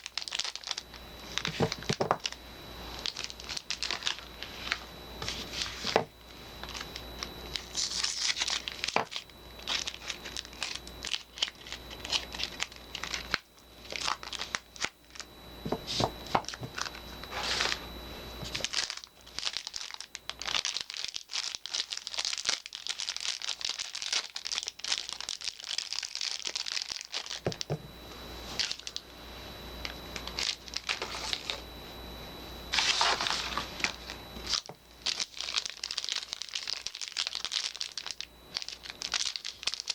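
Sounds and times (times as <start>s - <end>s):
wrapping crinkling and tearing: 0.0s - 27.7s, 28.4s - 29.0s, 29.8s - 31.6s, 32.7s - 39.9s.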